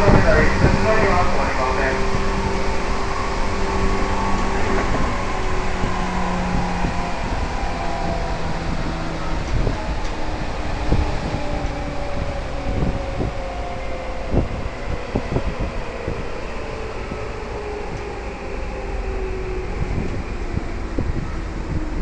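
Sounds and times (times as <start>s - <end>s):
train running rumble: 0.0s - 22.0s
train traction motors whining: 0.0s - 22.0s.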